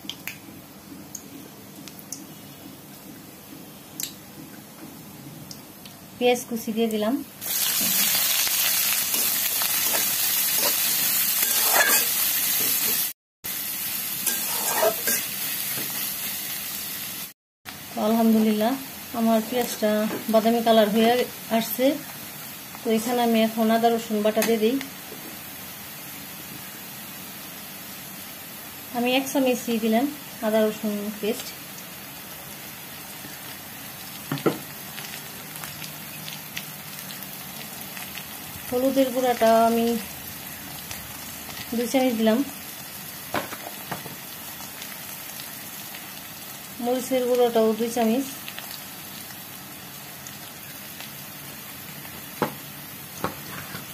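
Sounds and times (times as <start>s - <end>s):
onion sizzling in hot oil: 5.8s - 53.9s.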